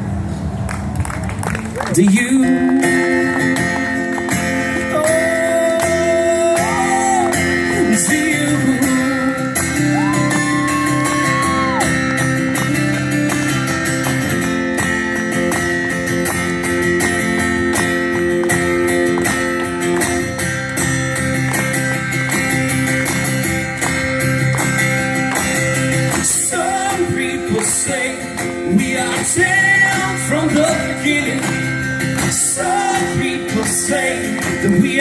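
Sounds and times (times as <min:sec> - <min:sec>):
strummed guitar chords: 0:02.0 - 0:35.0
live rock band playing: 0:02.9 - 0:35.0.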